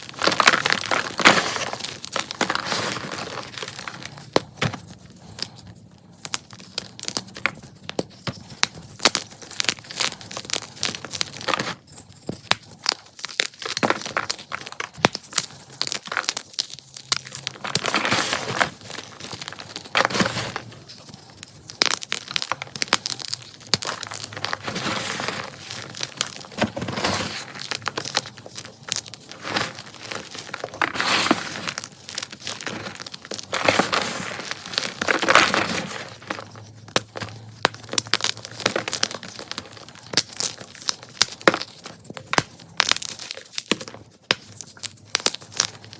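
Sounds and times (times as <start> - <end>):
chalk being crushed: 0.0 - 5.6, 12.6 - 45.9.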